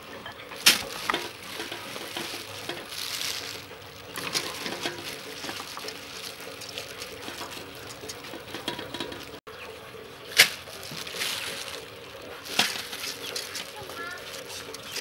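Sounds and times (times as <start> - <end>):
hands kneading wet sticky rice: 0.0 - 9.4, 10.3 - 15.0.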